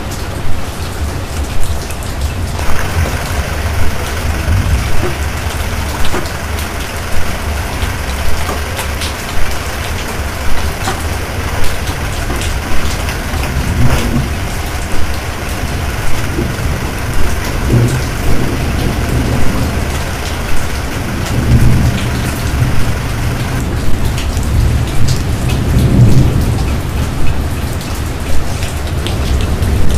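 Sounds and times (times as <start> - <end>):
deep rumble: 0.0 - 29.9
heavy rain pouring: 0.0 - 29.9.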